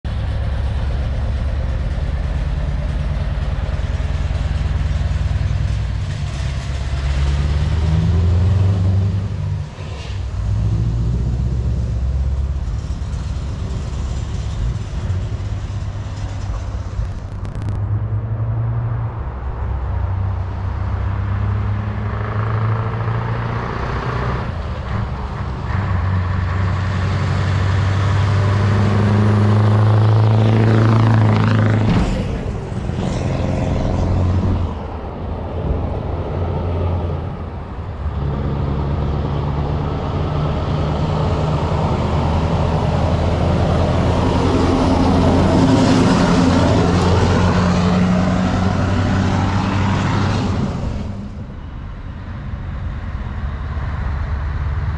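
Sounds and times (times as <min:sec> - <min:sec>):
diesel truck engines under load: 0:00.0 - 0:54.9.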